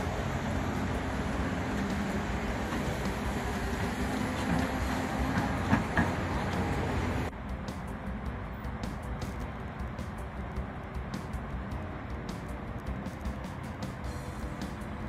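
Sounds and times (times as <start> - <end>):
heavy engine rumbling: 0.0 - 15.0.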